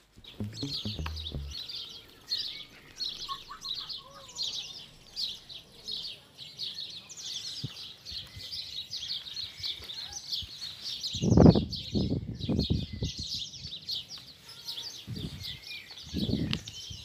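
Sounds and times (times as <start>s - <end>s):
songbirds trilling: 0.3s - 17.0s.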